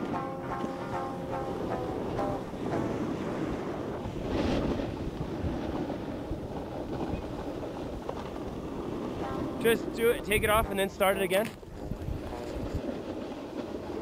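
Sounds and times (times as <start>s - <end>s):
snowboards scraping over snow: 0.0s - 14.0s
wind buffeting microphone: 0.0s - 14.0s.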